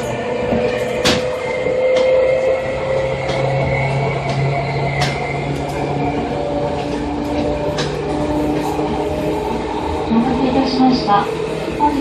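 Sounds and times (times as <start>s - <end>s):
electric train motor hum: 0.0s - 12.0s
train running noise: 0.0s - 12.0s.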